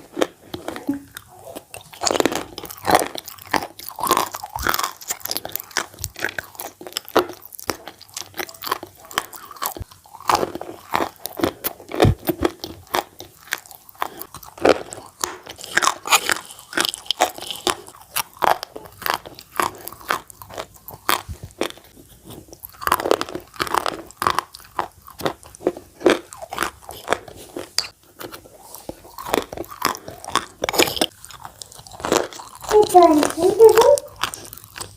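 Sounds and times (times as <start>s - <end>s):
chalk being chewed: 0.0s - 34.9s.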